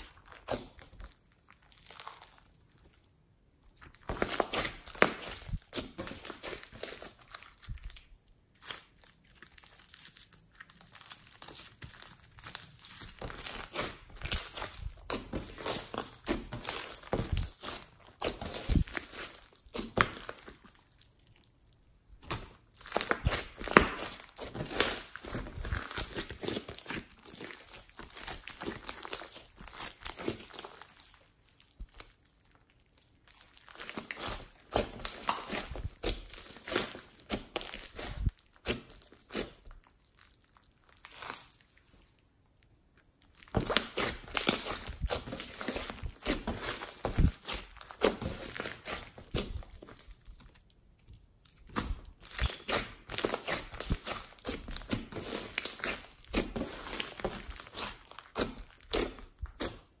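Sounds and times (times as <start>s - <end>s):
hands squishing slime: 0.0s - 42.0s, 43.0s - 60.0s.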